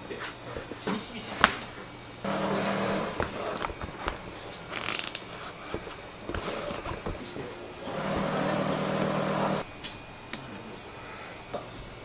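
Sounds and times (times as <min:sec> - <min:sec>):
machine hum: 0:01.7 - 0:12.0.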